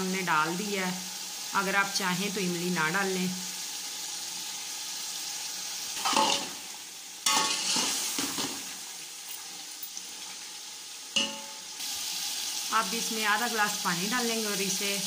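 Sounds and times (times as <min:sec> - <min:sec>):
food sizzling in pot: 0:00.0 - 0:15.0.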